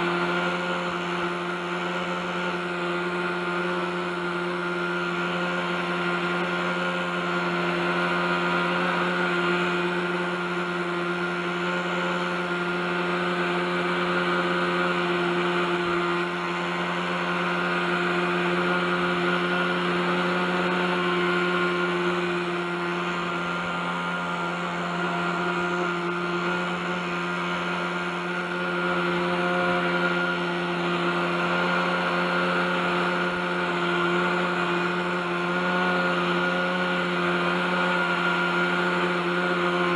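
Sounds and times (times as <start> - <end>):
model helicopter engine running: 0.0 - 39.9.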